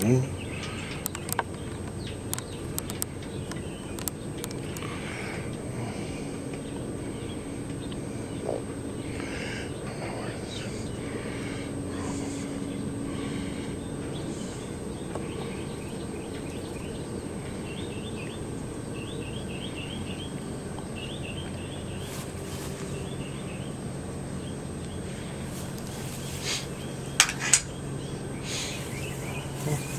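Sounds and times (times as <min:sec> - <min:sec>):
faint clicks and rustles: 0:00.0 - 0:19.2, 0:20.7 - 0:23.7, 0:24.7 - 0:29.9
bird chirping: 0:00.0 - 0:29.9
low background hum: 0:00.0 - 0:29.9
thin high whine: 0:00.0 - 0:29.9.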